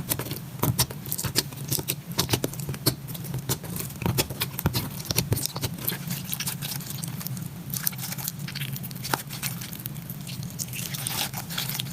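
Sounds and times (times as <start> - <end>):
slime squished by hand: 0.0 - 11.9.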